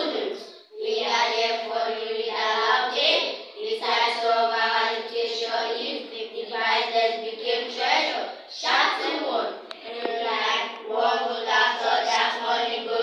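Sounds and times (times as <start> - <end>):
children chanting in unison: 0.0 - 13.0.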